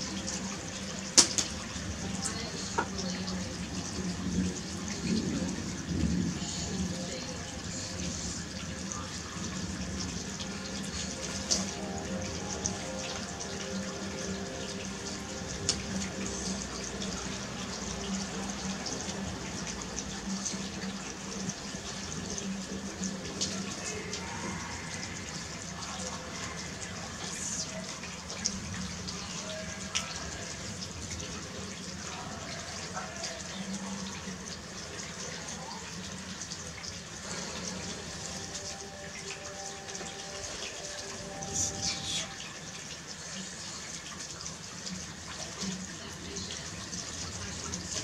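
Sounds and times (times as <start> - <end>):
water trickling and splashing: 0.0 - 48.0.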